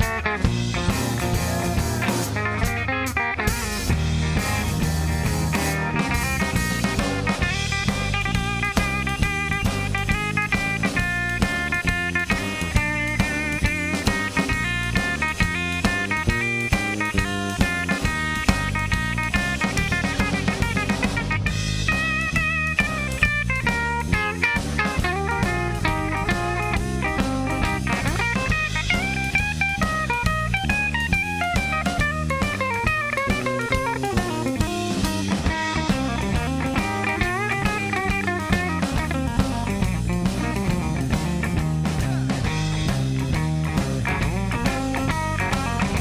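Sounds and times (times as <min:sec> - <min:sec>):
bass guitar: 0:00.0 - 0:46.0
drum kit beat: 0:00.0 - 0:46.0
lead guitar solo with bent notes: 0:00.0 - 0:46.0.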